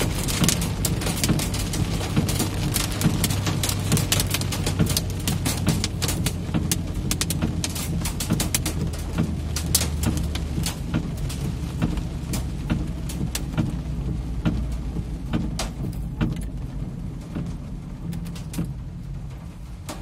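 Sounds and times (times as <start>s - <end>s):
engine and road rumble: 0.0s - 20.0s
raindrops ticking on windshield: 0.0s - 20.0s.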